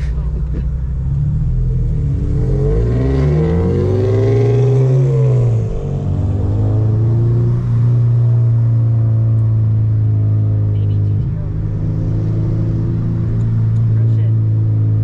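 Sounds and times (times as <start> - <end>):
car engine and exhaust in cabin: 0.0 - 15.0.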